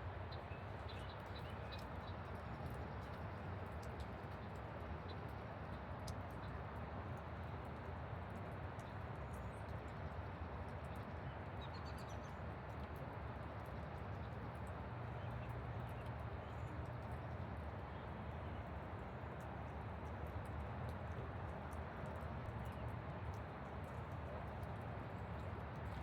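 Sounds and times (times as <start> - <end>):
steady rain: 0.1 - 26.0.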